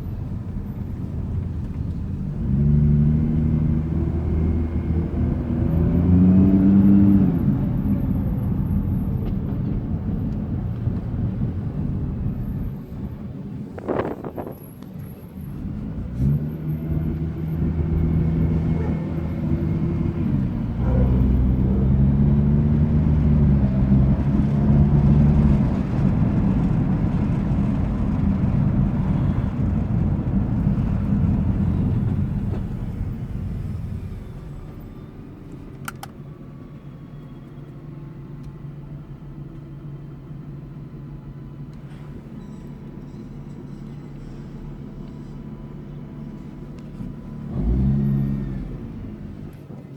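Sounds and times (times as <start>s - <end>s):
car engine pulling under load: 0.0s - 49.9s.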